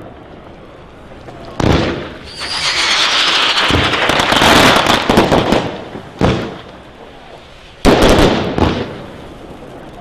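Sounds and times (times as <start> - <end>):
fireworks crackling: 0.0 - 10.0
fireworks bangs: 0.4 - 9.9.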